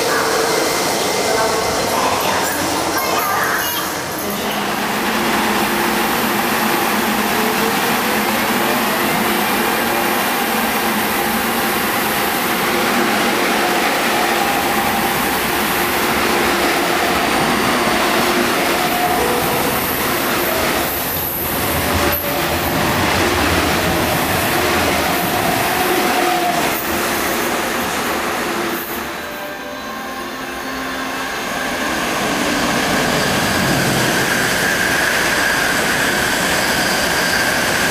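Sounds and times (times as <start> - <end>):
steel wheels rushing on rail: 0.0 - 37.9.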